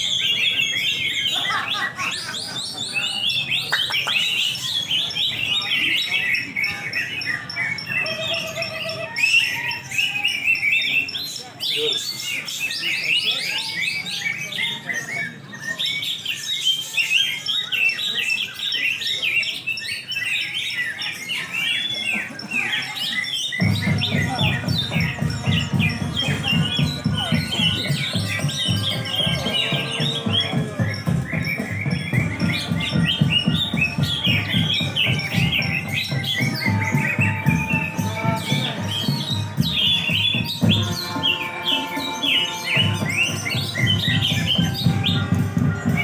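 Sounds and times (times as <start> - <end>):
birds chirping and warbling: 0.0 - 46.0.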